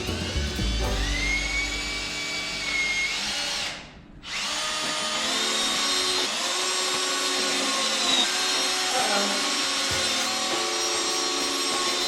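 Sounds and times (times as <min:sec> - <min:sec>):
power drill whining: 0:00.5 - 0:12.0.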